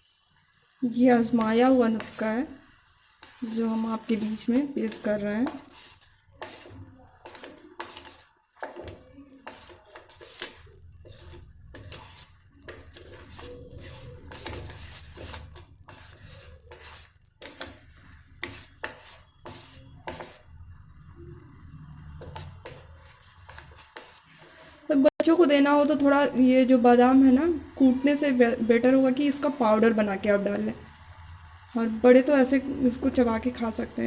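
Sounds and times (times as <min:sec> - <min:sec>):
spoon scraping cooking pot: 0:01.0 - 0:31.5.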